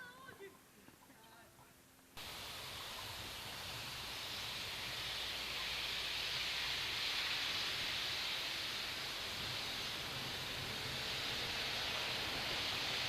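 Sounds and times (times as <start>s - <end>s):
steam locomotive hissing steam: 2.2s - 13.0s.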